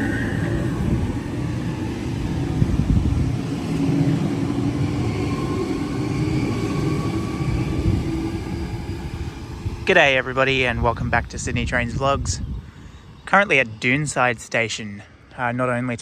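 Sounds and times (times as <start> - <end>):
electric train rumbling: 0.0 - 16.0
faint train whine: 0.0 - 16.0.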